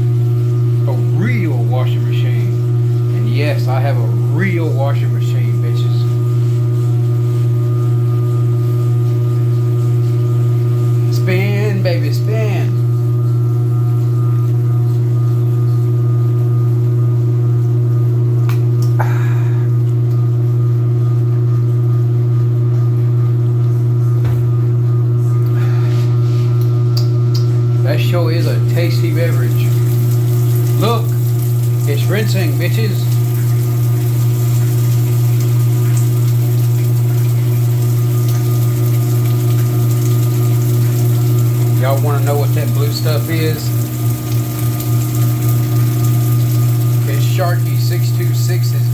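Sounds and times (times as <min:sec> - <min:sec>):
washing machine spin hum: 0:00.0 - 0:48.9
water running: 0:00.0 - 0:48.9.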